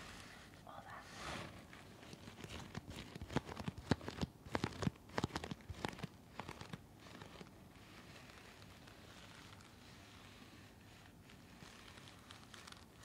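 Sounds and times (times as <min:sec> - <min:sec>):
mask material crinkling: 0:01.5 - 0:13.0.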